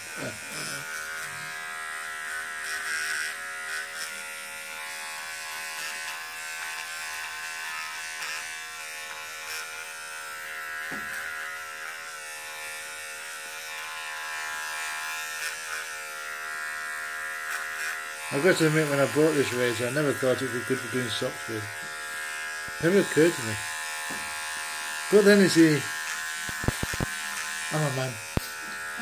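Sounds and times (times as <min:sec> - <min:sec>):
electric razor buzzing: 0:00.0 - 0:29.0.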